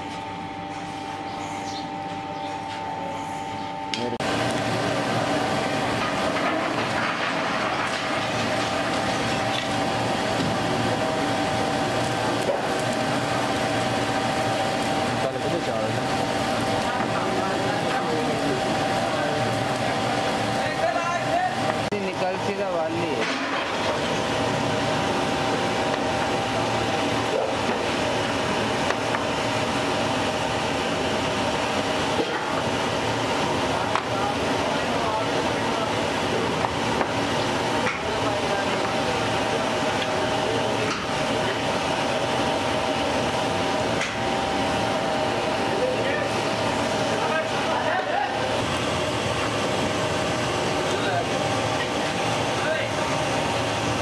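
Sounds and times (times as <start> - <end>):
air blower whine: 0.0 - 54.0
furnace roaring: 0.0 - 54.0.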